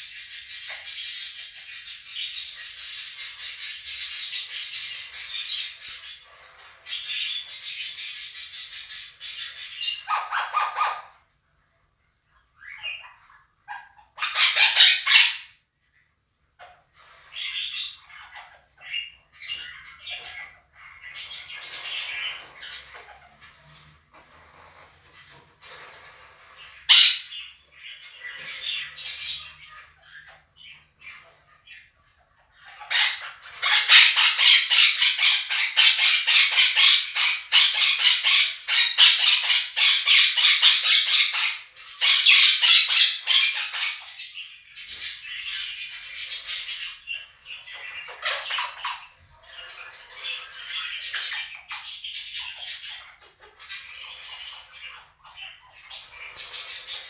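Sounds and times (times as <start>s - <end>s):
budgerigars chirping: 0.0s - 11.1s, 12.6s - 15.6s, 17.4s - 23.3s, 26.6s - 57.0s
parakeets screeching and squawking: 0.0s - 11.2s, 12.6s - 15.6s, 17.0s - 57.0s.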